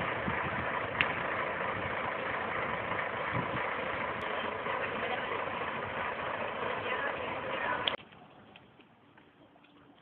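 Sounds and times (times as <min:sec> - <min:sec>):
bus engine idling: 0:00.0 - 0:08.0.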